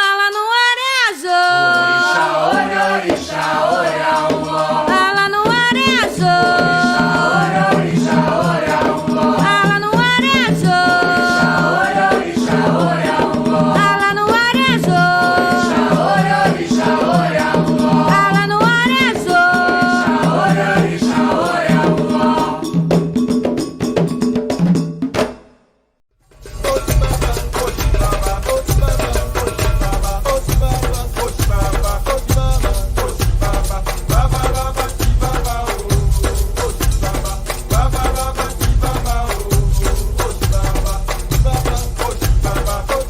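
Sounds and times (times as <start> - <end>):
person singing: 0.0 - 3.5, 4.5 - 22.6, 26.5 - 43.0
hand percussion: 0.0 - 25.5, 26.2 - 43.0.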